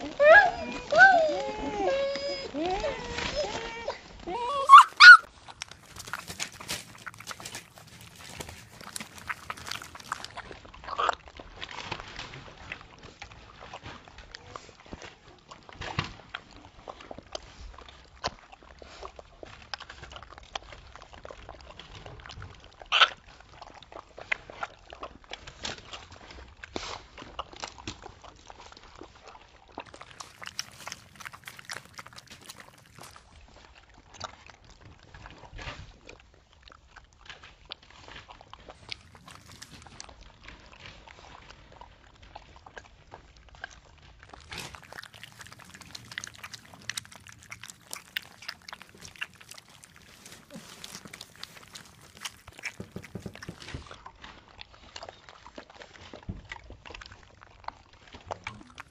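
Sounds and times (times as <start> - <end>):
puppies lapping food: 0.0 - 58.9.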